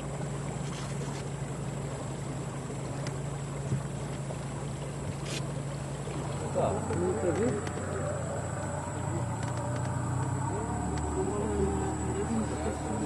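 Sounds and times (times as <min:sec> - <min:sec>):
outboard motor humming: 0:00.0 - 0:13.0
water wash: 0:00.0 - 0:13.0.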